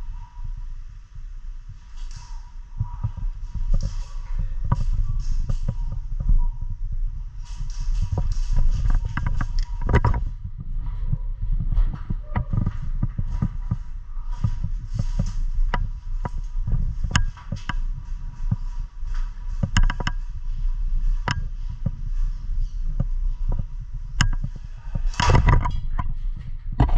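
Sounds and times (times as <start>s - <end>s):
low thumps of body movement: 0.0s - 26.9s
rustling: 0.0s - 26.9s.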